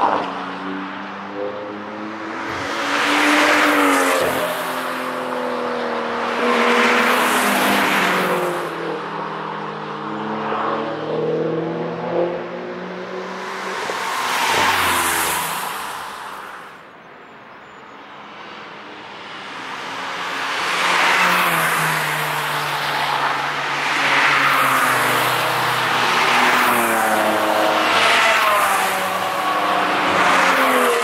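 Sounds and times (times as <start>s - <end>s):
cars passing at speed: 0.0s - 17.4s, 18.0s - 31.0s.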